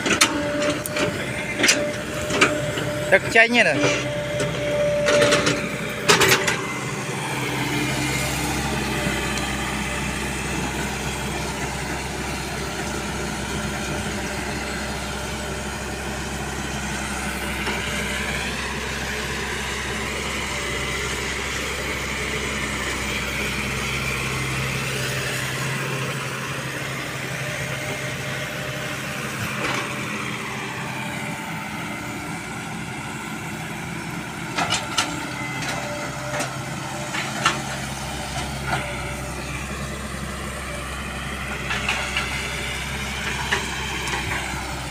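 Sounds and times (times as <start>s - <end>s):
excavator diesel engine running: 0.0s - 44.9s
hydraulic whine: 0.0s - 44.9s.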